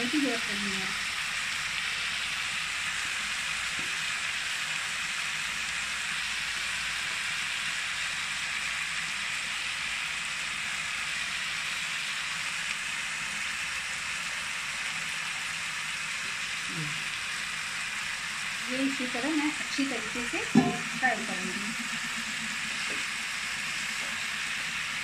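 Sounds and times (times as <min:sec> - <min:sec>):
rice and peas sizzling in oil: 0:00.0 - 0:25.0.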